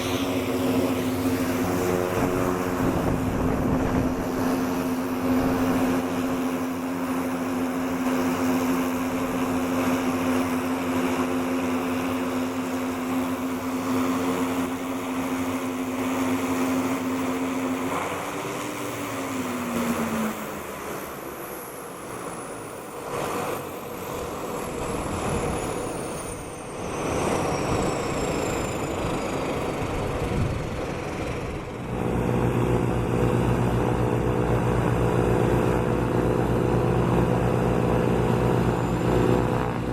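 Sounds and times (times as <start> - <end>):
high turbine whine: 0.0 - 39.9
low pulsing engine sound: 0.0 - 39.9
turboprop engines drone: 0.0 - 39.9.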